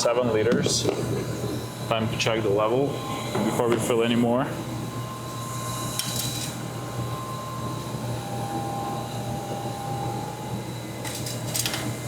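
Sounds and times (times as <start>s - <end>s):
faint high whine: 0.0s - 11.6s
steady low hum: 0.0s - 12.0s.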